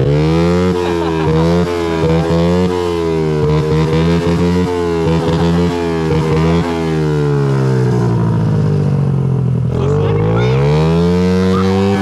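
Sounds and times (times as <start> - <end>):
small motorcycle engine revving: 0.0 - 12.0.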